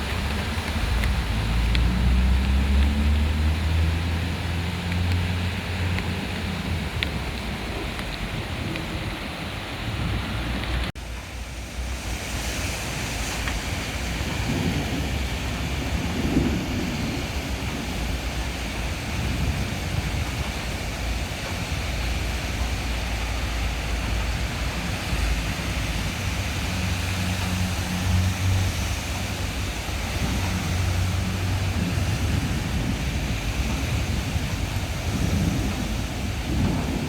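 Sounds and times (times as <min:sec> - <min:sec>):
low thunder rumble: 0:00.0 - 0:10.9, 0:11.8 - 0:37.0
heavy rain pouring: 0:00.0 - 0:37.0.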